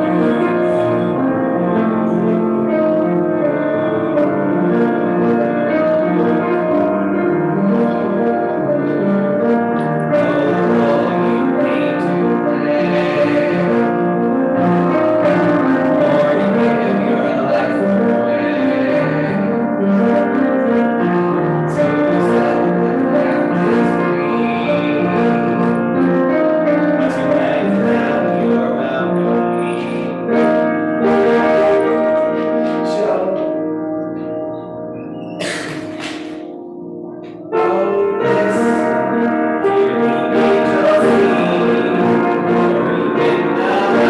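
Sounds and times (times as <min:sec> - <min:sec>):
upright piano playing chords: 0:00.0 - 0:44.0.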